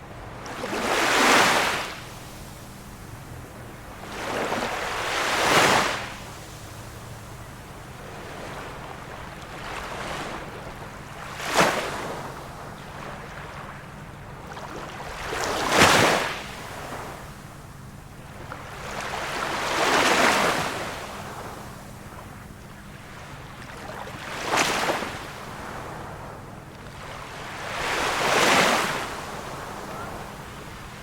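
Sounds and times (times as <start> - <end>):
small waves breaking: 0.0 - 31.0.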